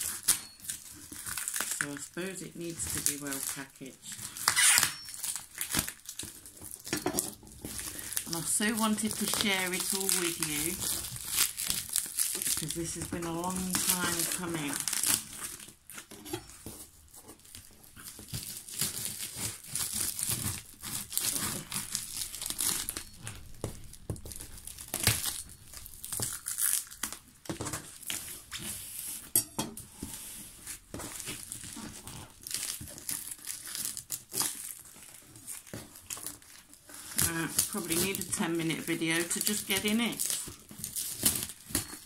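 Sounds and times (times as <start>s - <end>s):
packing tape ripping: 0.0s - 16.2s, 17.4s - 29.0s, 30.0s - 42.0s
plastic wrapping crinkling: 0.0s - 42.0s.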